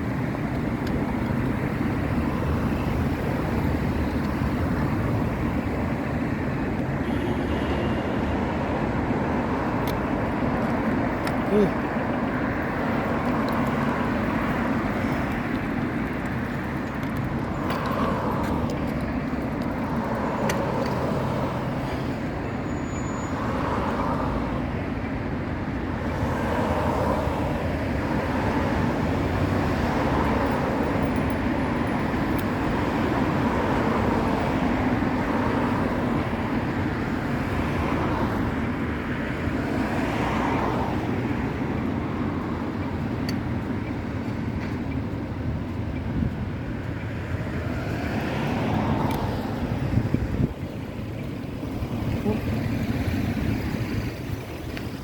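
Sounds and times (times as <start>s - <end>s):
cars passing: 0.0s - 55.0s
road traffic: 0.0s - 55.0s.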